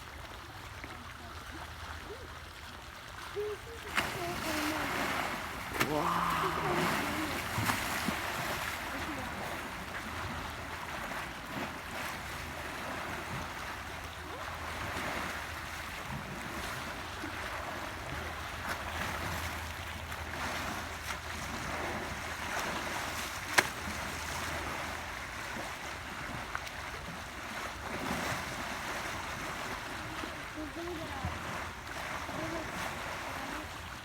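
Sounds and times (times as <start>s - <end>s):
water sloshing and splashing: 0.1s - 34.0s.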